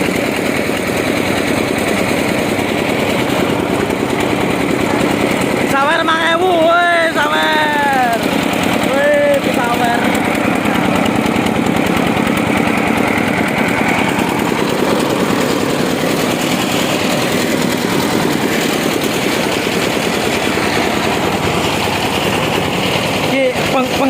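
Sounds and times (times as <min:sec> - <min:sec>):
diesel engine rattling: 0:00.0 - 0:24.0.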